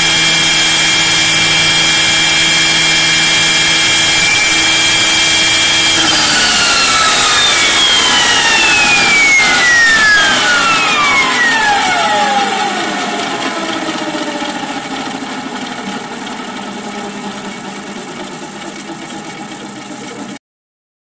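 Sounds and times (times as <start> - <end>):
model helicopter motor winding down: 0.0 - 20.4.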